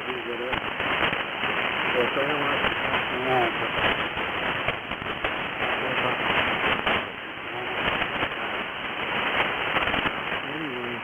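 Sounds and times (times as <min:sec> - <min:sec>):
radio static hiss: 0:00.0 - 0:11.0
static crackles and pops: 0:00.0 - 0:11.0.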